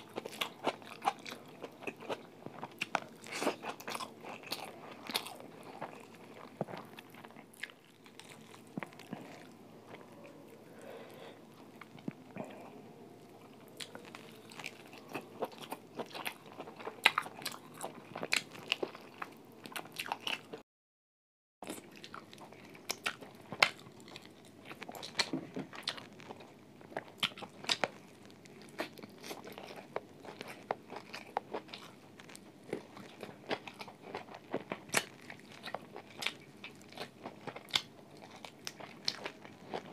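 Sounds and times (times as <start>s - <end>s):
chewing and crunching: 0.0s - 20.6s, 21.6s - 39.9s.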